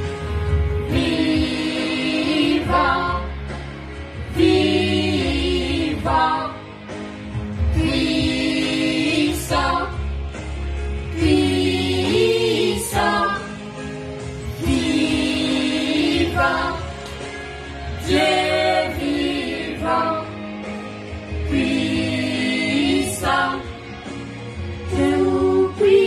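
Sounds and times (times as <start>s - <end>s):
low musical accompaniment: 0.0s - 26.0s.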